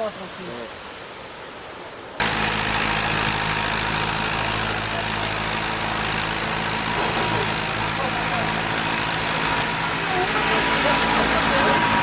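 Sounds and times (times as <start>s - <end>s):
tractor engine running: 2.2s - 12.0s.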